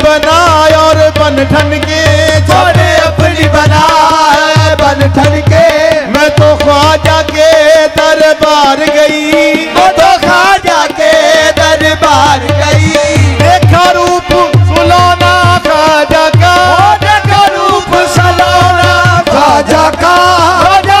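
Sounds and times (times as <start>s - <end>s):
harmonium melody: 0.0s - 21.0s
tabla drumming: 0.0s - 21.0s.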